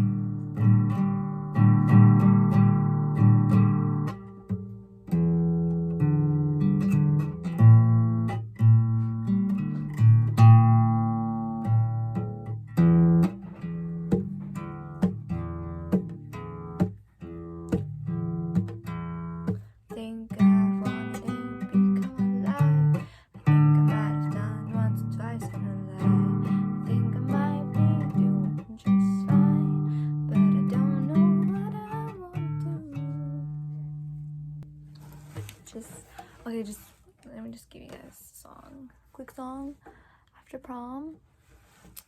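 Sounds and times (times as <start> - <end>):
acoustic guitar picking: 0.0 - 36.6.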